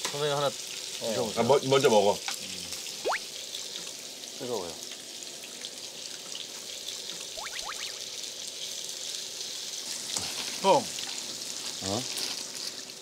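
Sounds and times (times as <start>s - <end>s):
meat sizzling in a grill pan: 0.0s - 13.0s.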